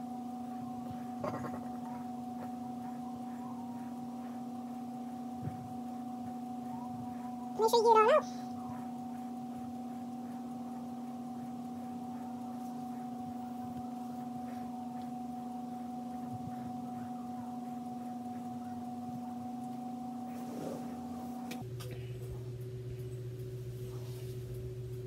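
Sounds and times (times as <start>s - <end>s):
two-tone electrical hum: 0.0s - 25.0s.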